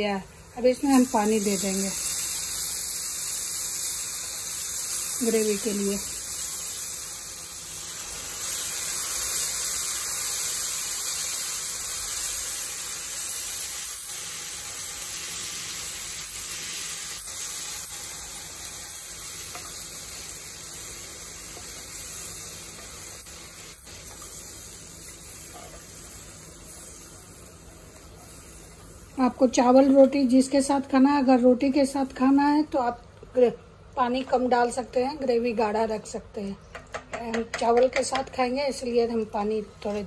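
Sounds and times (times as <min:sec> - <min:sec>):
masala sizzling in oil: 0:00.0 - 0:40.0.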